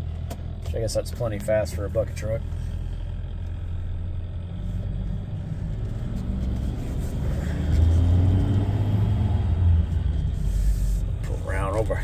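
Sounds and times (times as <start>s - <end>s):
diesel truck engine rumble: 0.0s - 12.0s.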